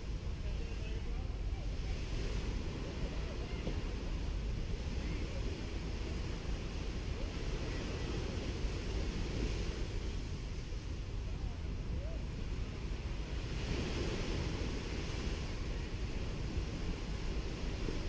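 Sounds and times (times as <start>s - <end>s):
sea waves washing onto sand: 0.0s - 18.0s
wind on microphone: 0.0s - 18.0s.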